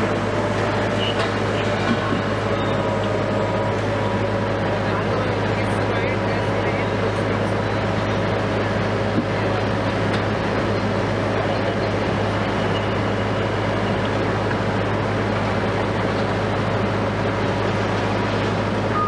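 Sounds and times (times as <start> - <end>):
crane diesel engine droning: 0.0 - 19.0.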